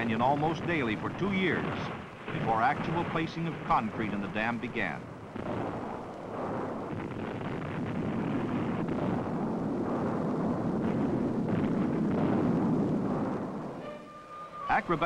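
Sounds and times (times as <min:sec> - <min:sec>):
explosion rumble: 0:00.0 - 0:14.0.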